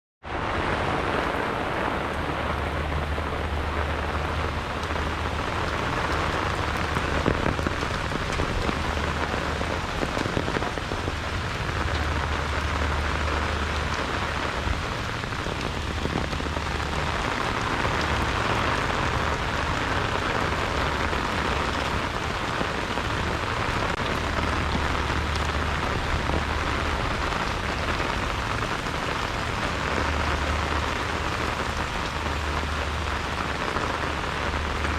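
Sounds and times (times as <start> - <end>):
heavy rain falling: 0.2 - 34.9
wind gusts on microphone: 0.3 - 34.9.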